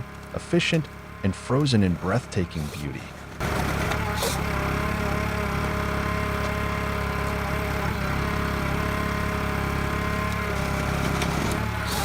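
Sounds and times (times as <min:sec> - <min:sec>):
machine engine running steadily: 0:00.0 - 0:12.0.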